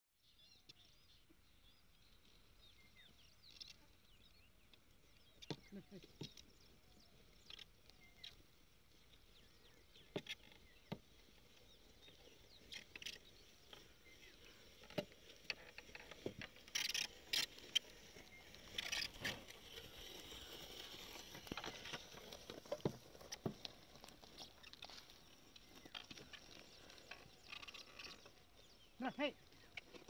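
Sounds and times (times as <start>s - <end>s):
hooves and plough crunching stubble: 0.3s - 30.0s.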